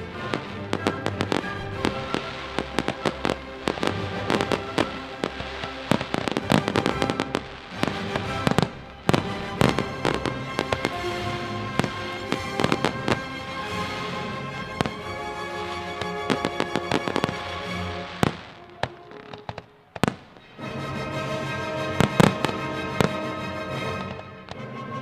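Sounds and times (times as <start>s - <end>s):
fireworks bangs and crackles: 0.0s - 24.7s
music: 0.0s - 25.0s.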